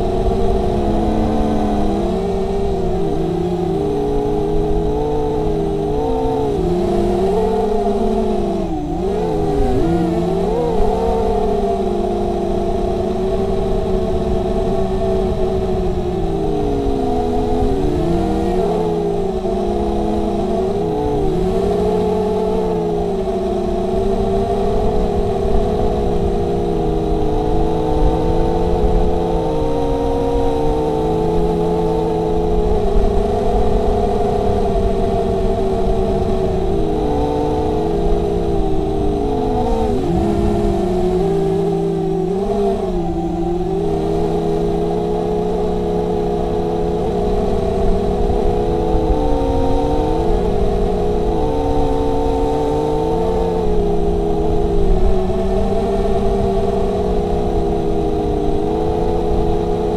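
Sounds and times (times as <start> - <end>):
quadcopter propellers buzzing whine: 0.0 - 59.9.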